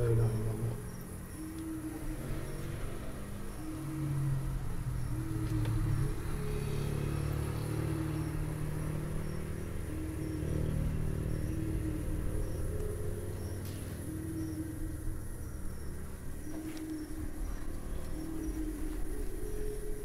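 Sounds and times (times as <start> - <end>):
dark ambient droning music: 0.0 - 20.0.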